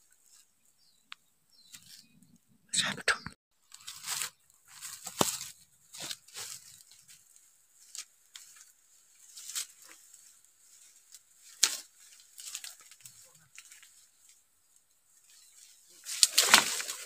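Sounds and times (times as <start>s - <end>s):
dry leaves and twigs crackling: 0.0s - 2.4s, 3.6s - 17.0s.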